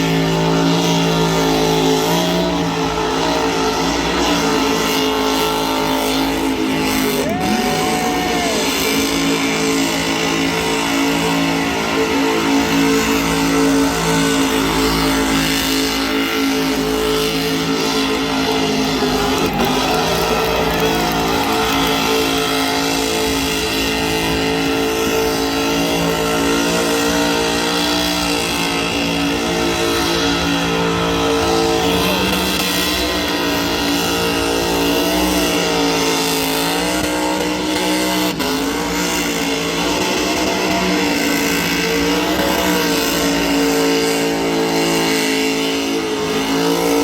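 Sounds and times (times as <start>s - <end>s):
car engine at high revs: 0.0s - 47.0s.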